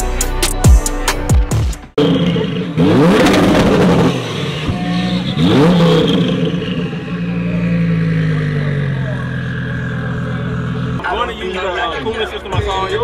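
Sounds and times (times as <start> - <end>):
car engine idling: 2.0 - 13.0
car engine revving: 2.0 - 13.0.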